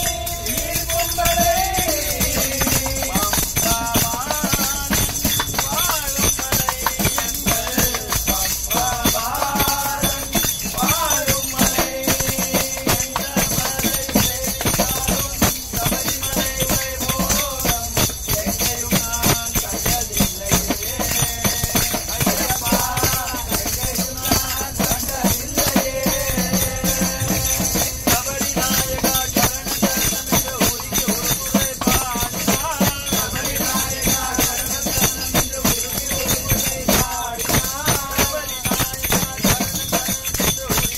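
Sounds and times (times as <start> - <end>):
group singing devotional song: 0.0 - 40.9
jingling hand percussion: 0.0 - 40.9.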